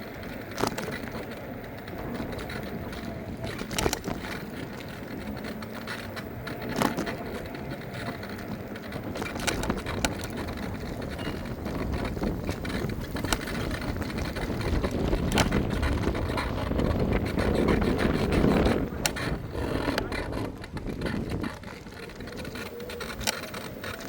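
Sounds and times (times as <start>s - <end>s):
tyre rumble: 0.0s - 24.0s
wind on microphone: 0.0s - 24.0s.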